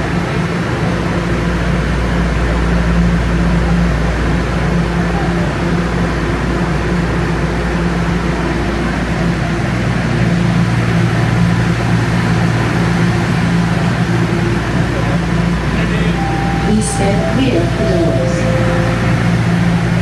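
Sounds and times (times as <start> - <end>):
train ventilation fans humming: 0.0 - 20.0.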